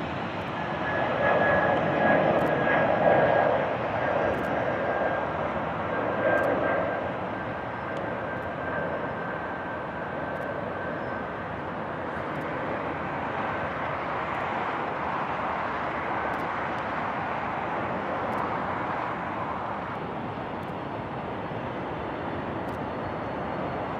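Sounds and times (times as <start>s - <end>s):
airliner engines passing: 0.0s - 23.9s.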